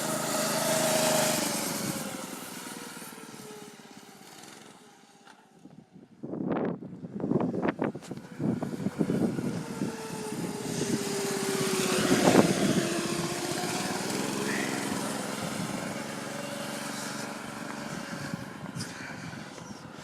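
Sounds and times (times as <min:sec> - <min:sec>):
mini bike engine passing by: 0:00.0 - 0:06.0, 0:07.3 - 0:20.0.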